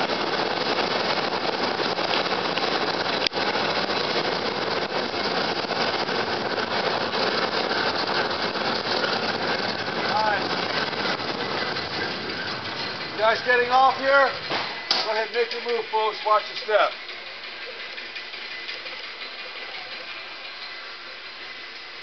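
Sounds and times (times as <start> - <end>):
streetcar running noise: 0.0 - 22.0.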